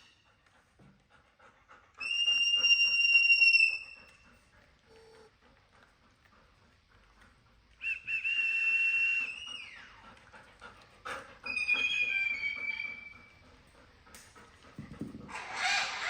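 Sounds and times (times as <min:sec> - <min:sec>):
pet whining: 0:00.0 - 0:16.0.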